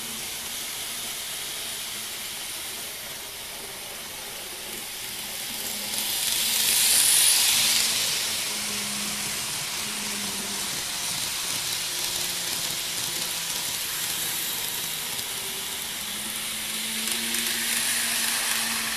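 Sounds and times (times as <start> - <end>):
model train wheels hissing: 0.0 - 18.9.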